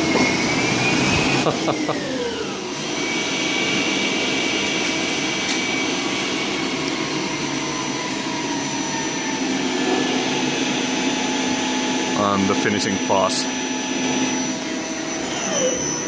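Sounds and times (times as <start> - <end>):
lathe machining whir and hiss: 0.0 - 16.0.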